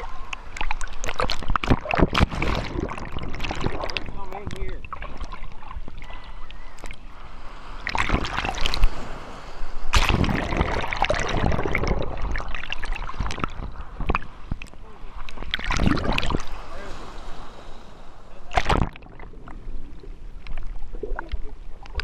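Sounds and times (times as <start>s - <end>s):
ocean surf churning: 0.0s - 20.4s
underwater bubbling: 0.0s - 22.0s.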